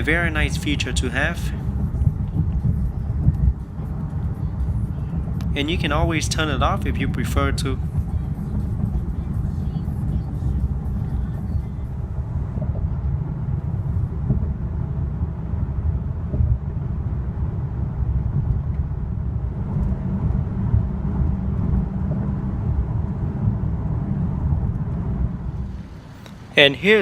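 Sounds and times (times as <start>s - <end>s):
car interior road rumble: 0.0s - 27.0s.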